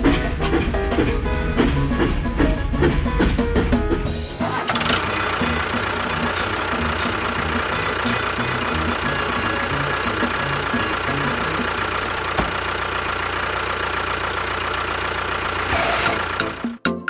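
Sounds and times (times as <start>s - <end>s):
tractor engine idling: 0.0s - 16.8s.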